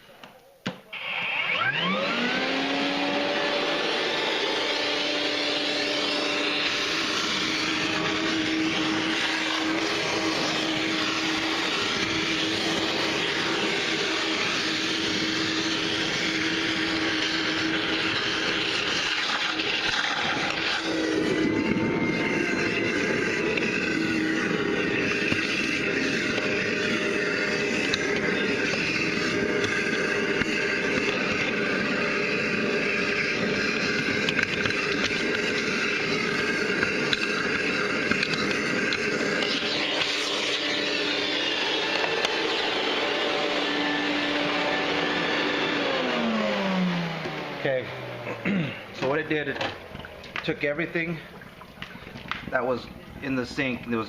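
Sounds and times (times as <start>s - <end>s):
vacuum cleaner sucking water: 0.9s - 54.0s.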